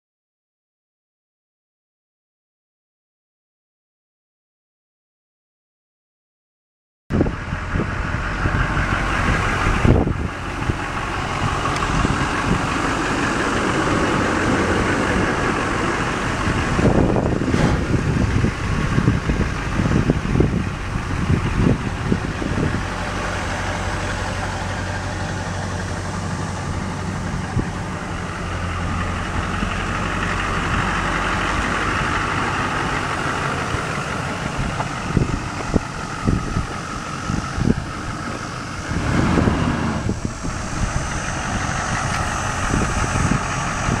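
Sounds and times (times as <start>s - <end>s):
diesel engine idling: 7.1s - 44.0s.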